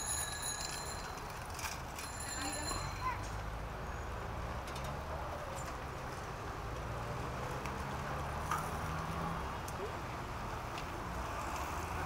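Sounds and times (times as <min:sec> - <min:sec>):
bicycles rolling on pavement: 0:00.0 - 0:12.0
traffic rumble: 0:00.0 - 0:12.0.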